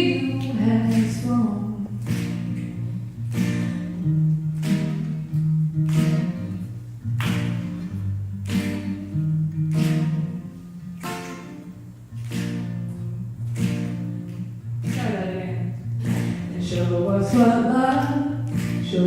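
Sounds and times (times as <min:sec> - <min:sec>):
guitar strumming: 0:00.0 - 0:19.0.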